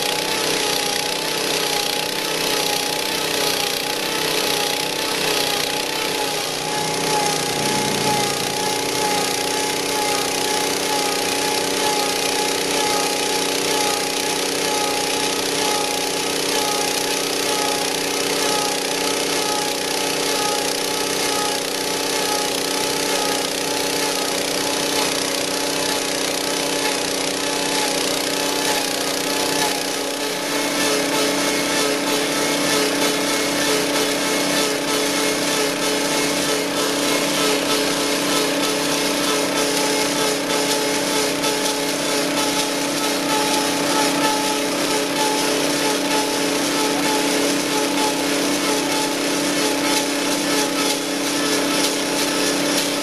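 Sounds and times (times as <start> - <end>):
small gas engine running: 0.0 - 53.0.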